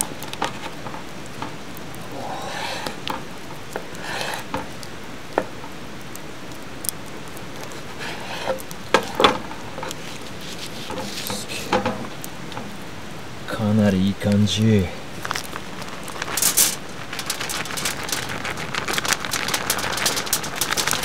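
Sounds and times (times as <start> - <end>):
steady hiss with faint crackles: 0.0 - 21.0.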